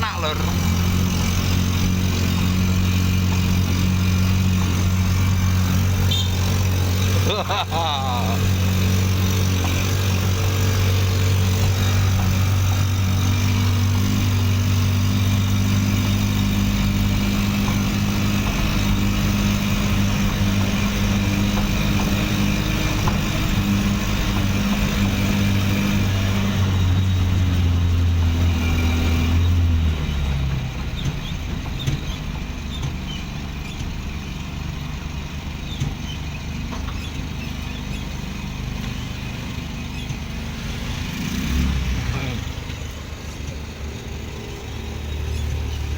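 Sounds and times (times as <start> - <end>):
motorcycle engine humming: 0.0 - 45.9
outdoor background noise: 0.0 - 45.9.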